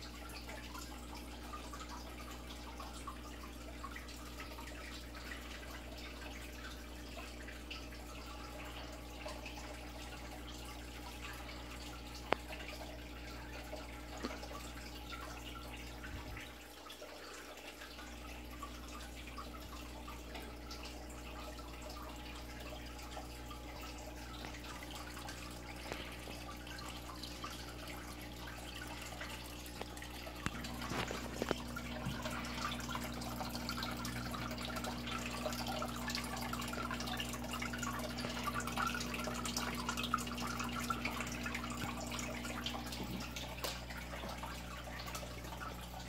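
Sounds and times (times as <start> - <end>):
water trickling and dripping: 0.0 - 46.0.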